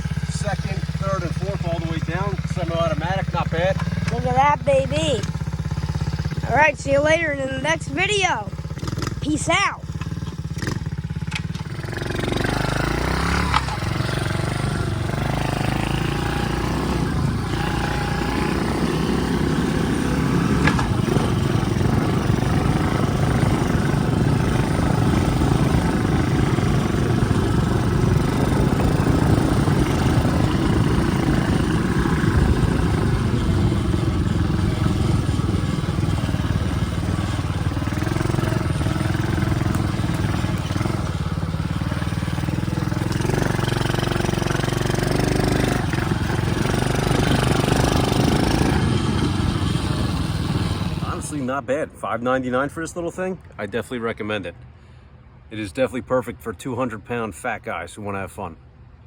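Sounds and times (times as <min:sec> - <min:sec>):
pit bike engine revving: 0:00.0 - 0:51.6.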